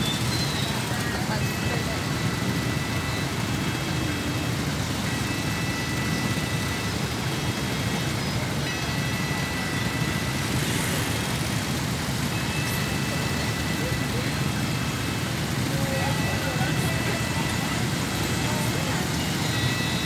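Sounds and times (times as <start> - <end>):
motorbike engines idling: 0.0 - 20.0
thin high steady tone: 0.0 - 20.0.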